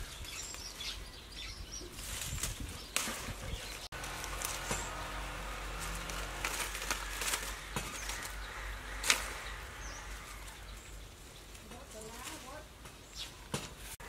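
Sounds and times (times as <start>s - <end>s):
leaves rustling: 0.0s - 14.0s
stems snapping: 2.0s - 13.8s.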